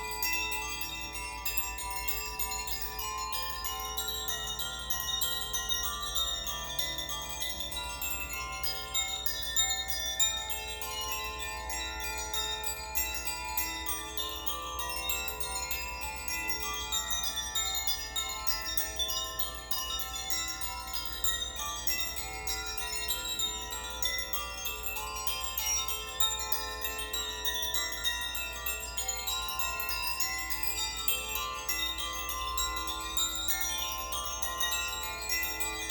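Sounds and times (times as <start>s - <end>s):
wind chimes tinkling: 0.0s - 35.9s.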